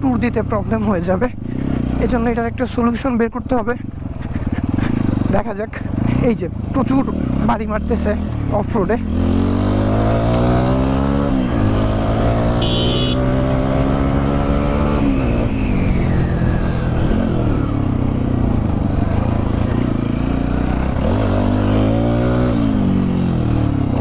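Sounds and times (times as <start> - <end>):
motorcycle engine revving: 3.8 - 24.0.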